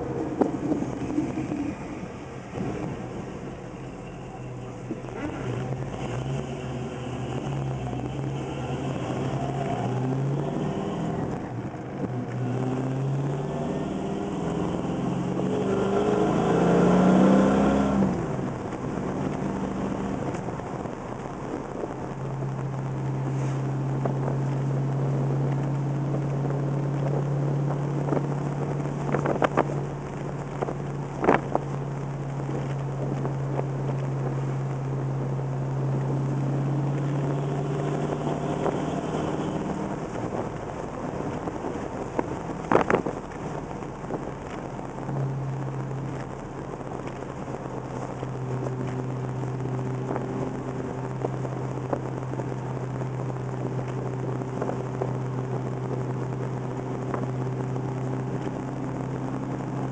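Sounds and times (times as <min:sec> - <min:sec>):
car engine revving from inside cabin: 0:04.2 - 0:21.0, 0:21.8 - 0:46.4, 0:47.0 - 0:59.9.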